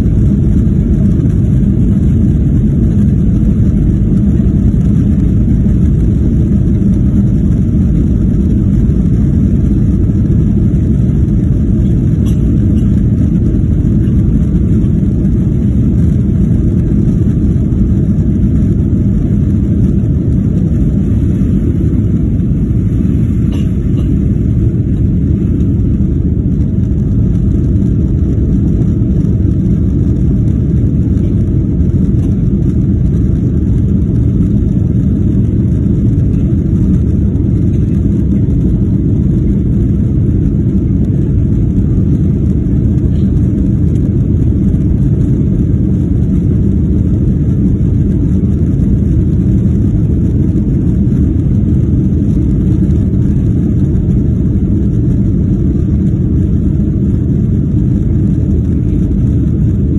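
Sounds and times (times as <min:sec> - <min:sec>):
jet engine rumble in cabin: 0:00.0 - 0:59.9.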